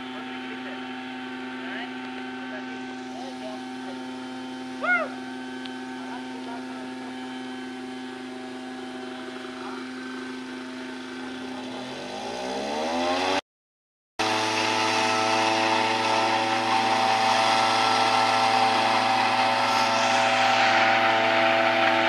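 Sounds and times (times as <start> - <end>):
tea harvester engine revving: 0.0 - 13.4, 14.2 - 22.0.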